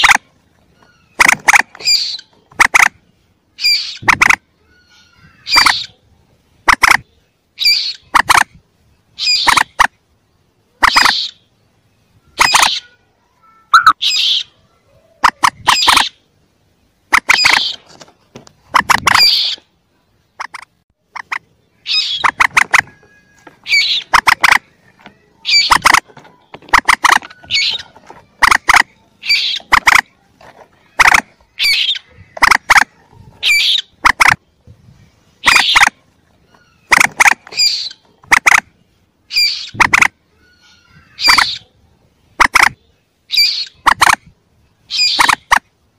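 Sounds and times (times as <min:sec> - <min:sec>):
moorhen chick squeaky calls: 0:00.0 - 0:09.9, 0:10.8 - 0:11.5, 0:12.2 - 0:13.0, 0:13.7 - 0:16.3, 0:17.1 - 0:18.1, 0:18.7 - 0:19.7, 0:20.4 - 0:34.7, 0:35.3 - 0:41.8, 0:42.4 - 0:45.7.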